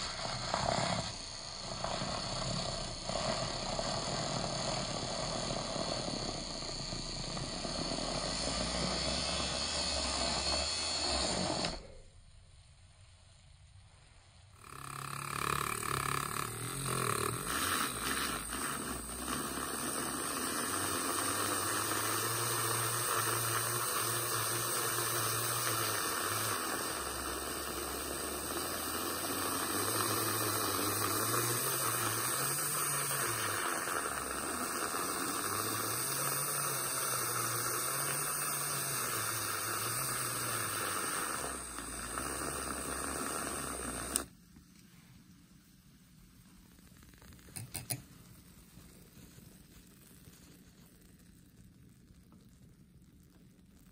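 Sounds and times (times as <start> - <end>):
milk frother whisking milk: 0.0 - 12.0, 14.6 - 44.4, 46.8 - 52.6.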